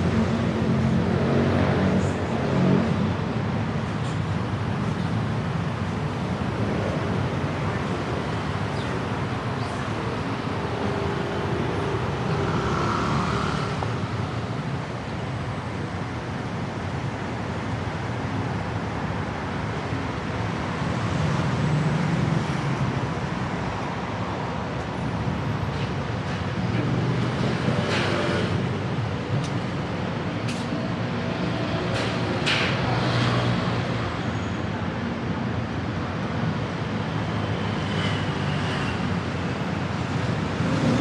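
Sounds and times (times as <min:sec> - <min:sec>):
road traffic: 0:00.0 - 0:41.0
vehicles passing close by: 0:00.0 - 0:41.0.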